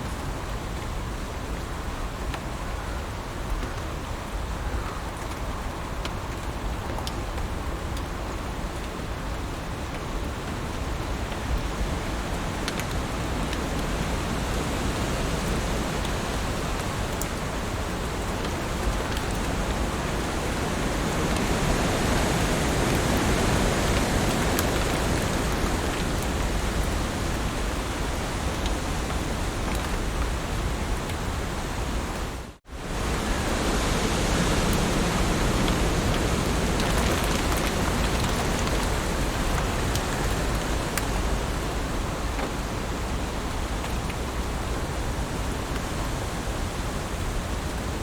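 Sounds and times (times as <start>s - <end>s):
heavy rain on leaves: 0.0s - 48.0s.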